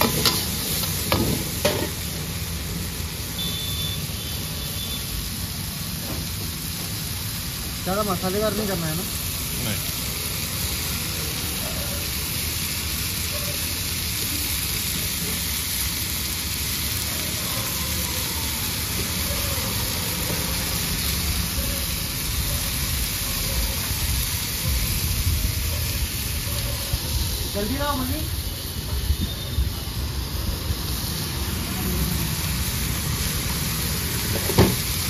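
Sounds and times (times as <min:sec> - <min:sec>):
vegetables sizzling in a wok: 0:00.0 - 0:35.0.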